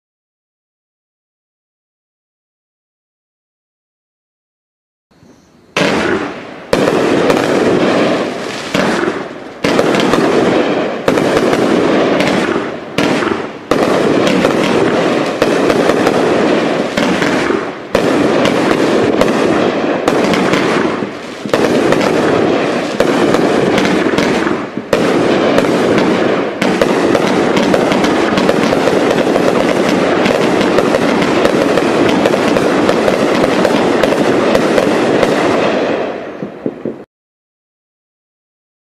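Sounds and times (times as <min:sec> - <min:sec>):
fireworks shots and bursts: 0:05.7 - 0:37.0.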